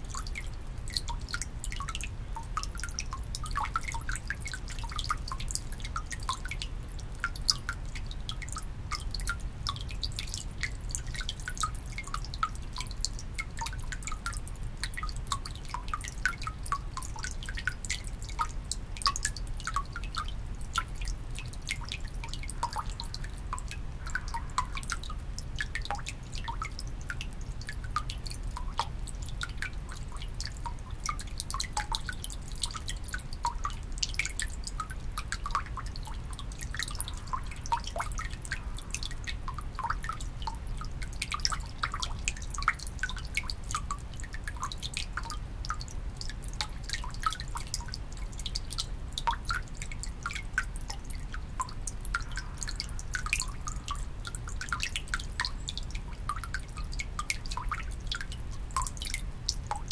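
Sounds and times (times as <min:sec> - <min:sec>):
water dripping into stone basin: 0:00.0 - 0:59.9.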